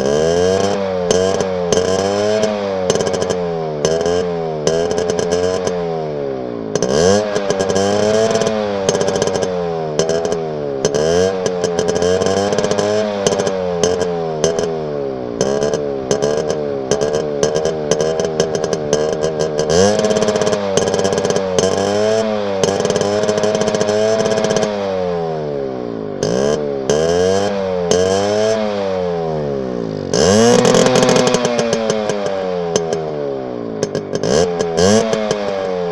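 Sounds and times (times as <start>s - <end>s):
engine revving over idle: 0.0s - 35.9s.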